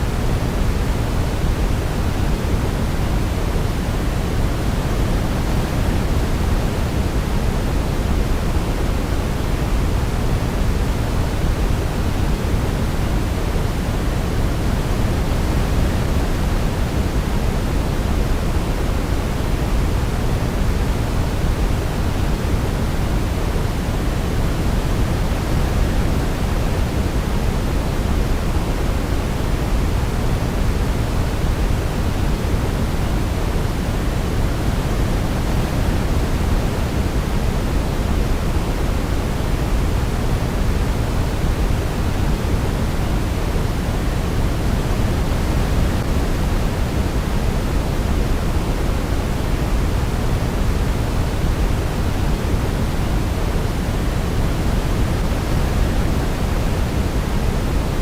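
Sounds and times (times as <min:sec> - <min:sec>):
low pink noise hiss: 0:00.0 - 0:58.0.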